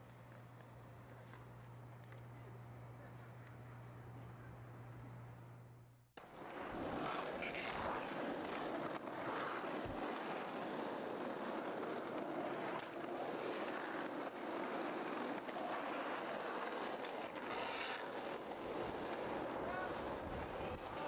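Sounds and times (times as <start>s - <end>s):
skateboard wheels rolling on pavement: 0.0s - 4.4s, 6.2s - 21.0s.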